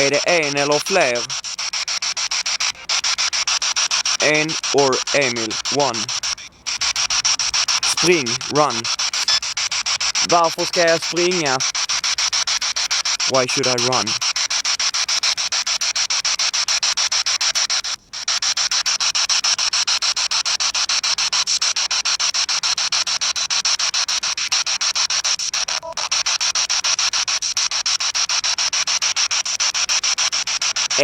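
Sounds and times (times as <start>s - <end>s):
radio static with rapid ticks: 0.0s - 31.0s.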